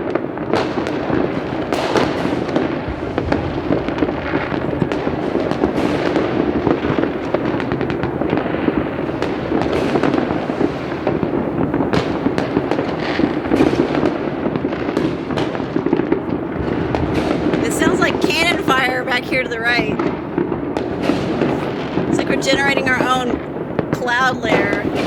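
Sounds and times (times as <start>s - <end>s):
fireworks crackling and popping: 0.0s - 25.0s
sharp bangs: 0.6s - 25.0s.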